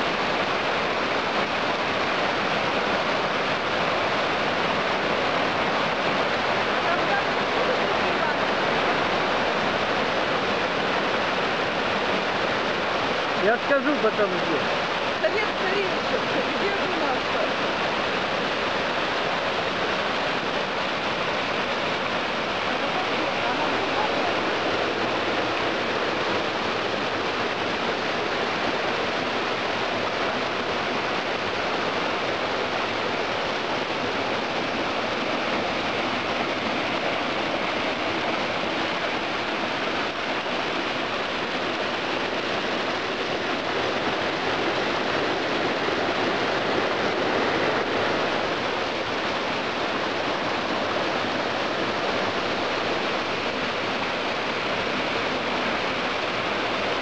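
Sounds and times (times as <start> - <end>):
stream cascading over boulders: 0.0 - 57.0.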